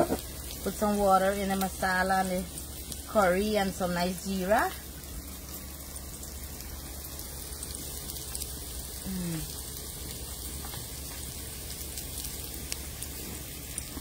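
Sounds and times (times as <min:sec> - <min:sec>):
onions sizzling in a pan: 0:00.0 - 0:14.0
faint fine crackle: 0:00.1 - 0:14.0.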